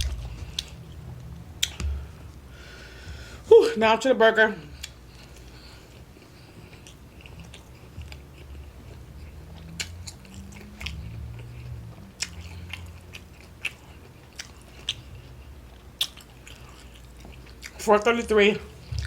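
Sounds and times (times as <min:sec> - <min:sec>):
person biting and chewing burger: 0:00.0 - 0:03.3, 0:04.8 - 0:17.8.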